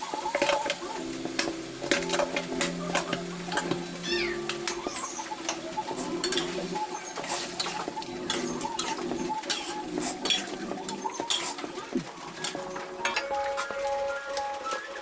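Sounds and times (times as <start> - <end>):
utensil scraping a pan: 0.0 - 13.8.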